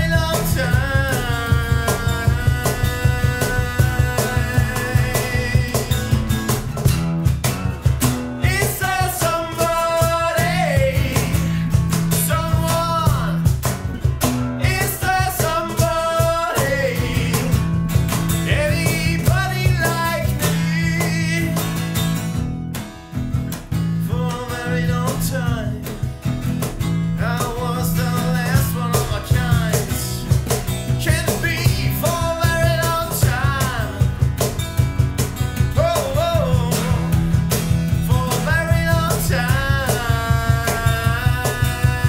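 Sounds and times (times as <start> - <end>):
man singing lead vocal: 0.0 - 6.6, 8.3 - 13.7, 14.5 - 22.2, 24.0 - 25.9, 27.0 - 34.5, 35.6 - 42.0
bass guitar: 0.0 - 42.0
cajon beat: 0.0 - 42.0
strummed guitar: 0.0 - 42.0.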